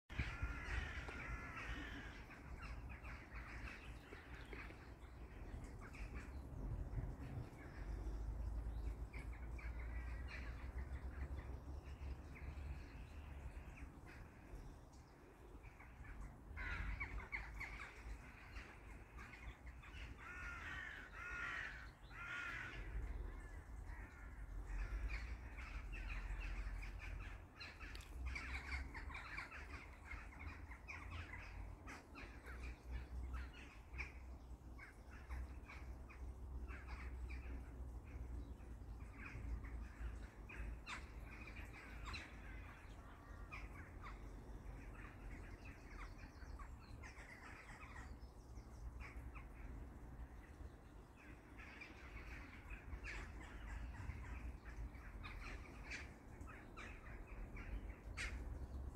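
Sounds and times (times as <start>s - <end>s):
birds calling: 0.1s - 58.9s.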